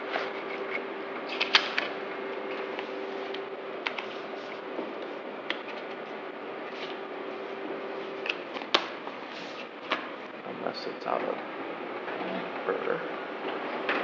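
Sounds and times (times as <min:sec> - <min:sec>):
printer humming: 0:00.0 - 0:14.0.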